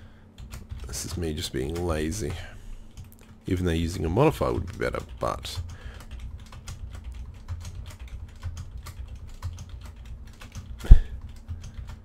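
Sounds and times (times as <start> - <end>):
low steady hum: 0.0 - 12.0
keyboard keys tapping: 0.4 - 12.0.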